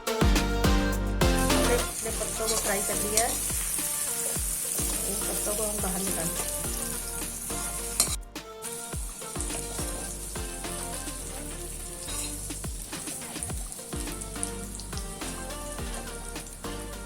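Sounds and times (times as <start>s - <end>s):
background music with beat: 0.0s - 17.0s
oil sizzling: 1.4s - 17.0s.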